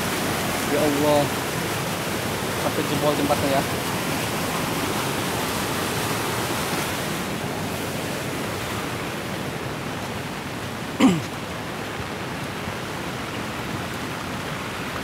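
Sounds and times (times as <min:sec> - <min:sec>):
rain: 0:00.0 - 0:15.0
running floodwater: 0:00.0 - 0:15.0.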